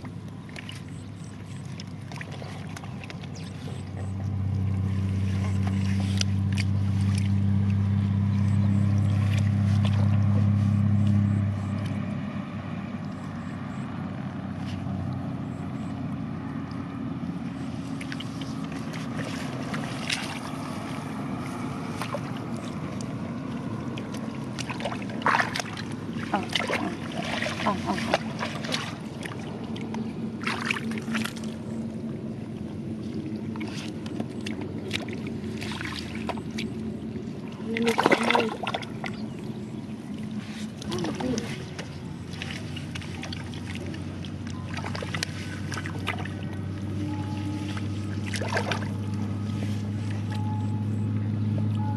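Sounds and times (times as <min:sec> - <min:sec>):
hands splashing in muddy water: 0:00.0 - 0:13.1, 0:16.5 - 0:32.2, 0:32.8 - 0:51.9
low engine hum: 0:00.0 - 0:51.9.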